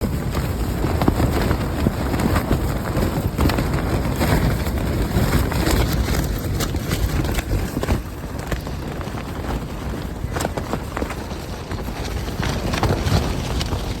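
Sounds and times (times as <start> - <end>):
flaps and knocks of buffeted objects: 0.0 - 14.0
gusting wind on microphone: 0.0 - 14.0.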